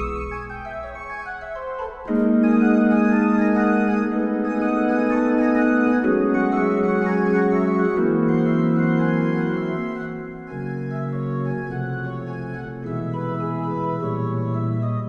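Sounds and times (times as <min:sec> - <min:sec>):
organ playing ragtime: 0:00.0 - 0:15.0.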